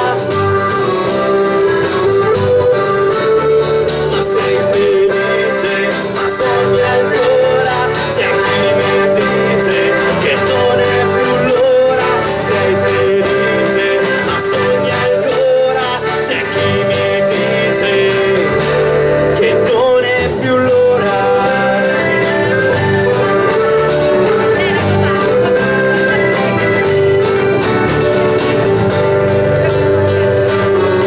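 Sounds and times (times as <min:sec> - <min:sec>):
electric bass: 0:00.0 - 0:31.0
piano accordion melody: 0:00.0 - 0:31.0
strummed acoustic guitar: 0:00.0 - 0:31.0.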